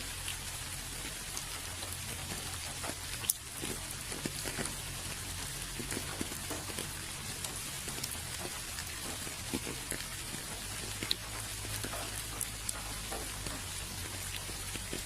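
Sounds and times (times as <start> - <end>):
low steady rumble: 0.0 - 15.0
rain drops pattering: 0.0 - 15.0.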